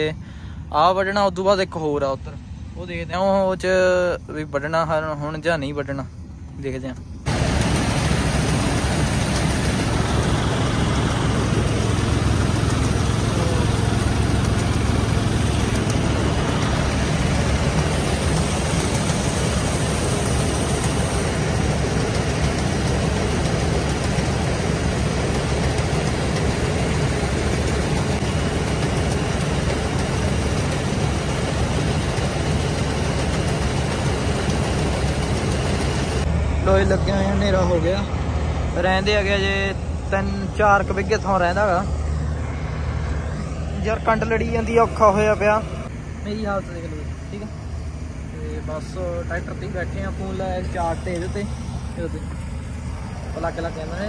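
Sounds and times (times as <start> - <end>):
combine harvester engine hum: 0.0 - 54.0
machinery rushing: 7.3 - 54.0.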